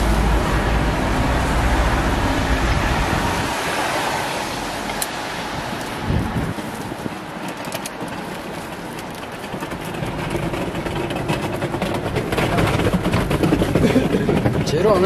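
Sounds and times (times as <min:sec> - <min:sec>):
rumbling background noise: 0:00.0 - 0:15.0.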